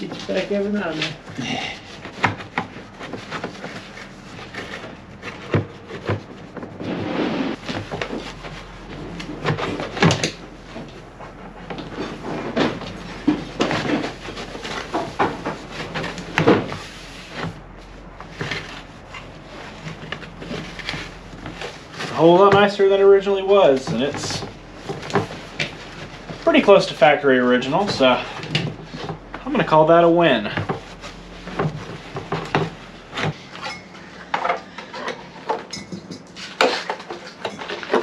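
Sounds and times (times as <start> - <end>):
cloth rubbing fiberglass: 0.0 - 33.7.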